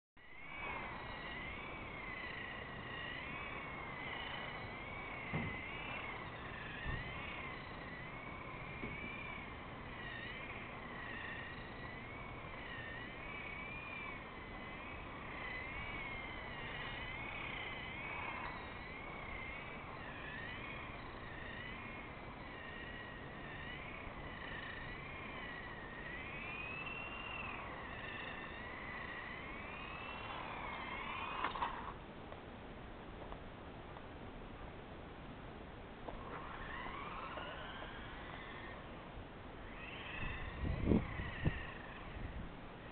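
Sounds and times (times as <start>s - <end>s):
toy car motor whining: 0.4s - 32.0s, 36.1s - 42.9s.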